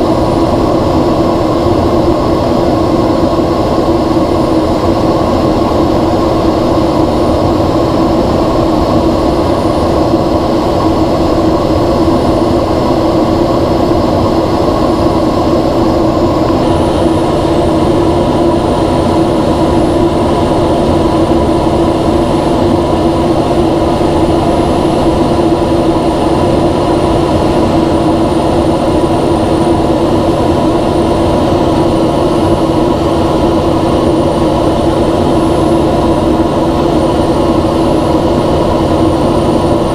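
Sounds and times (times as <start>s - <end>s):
jet engine and airflow drone: 0.0s - 39.9s
steady hum: 0.0s - 39.9s.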